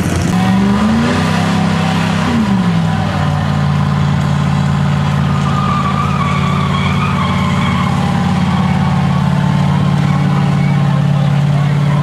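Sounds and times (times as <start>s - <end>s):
tires squealing: 0.0s - 12.0s
truck engine at high revs: 0.0s - 12.0s.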